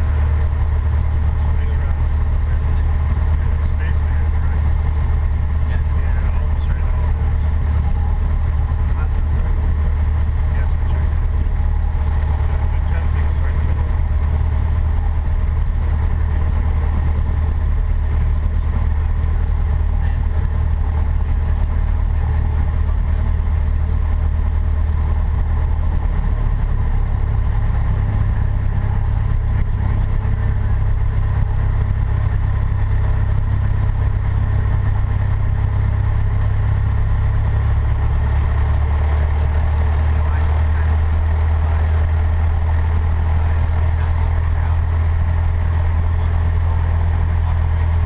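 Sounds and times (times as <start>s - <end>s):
small plane engine droning: 0.0s - 48.0s.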